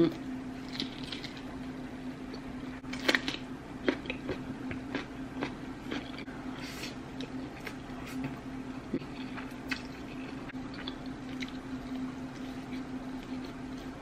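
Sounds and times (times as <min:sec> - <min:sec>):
steady low hum: 0:00.0 - 0:14.0
person chewing and biting food: 0:00.6 - 0:01.6, 0:02.8 - 0:08.2, 0:09.0 - 0:14.0.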